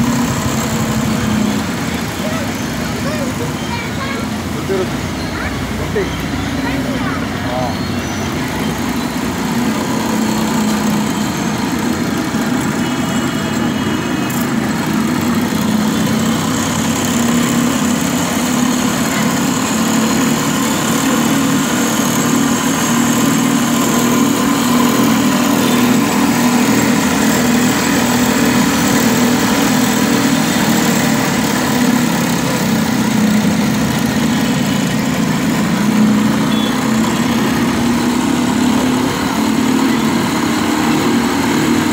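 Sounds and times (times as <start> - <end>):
cotton candy machine droning: 0.0 - 41.9.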